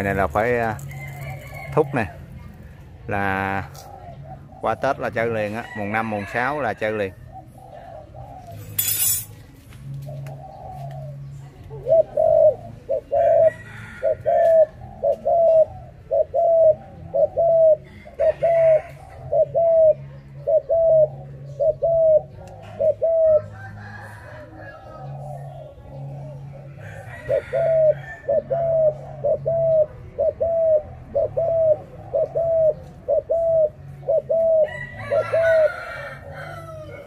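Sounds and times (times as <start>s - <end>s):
dove cooing: 0.0s - 9.3s, 9.9s - 37.0s.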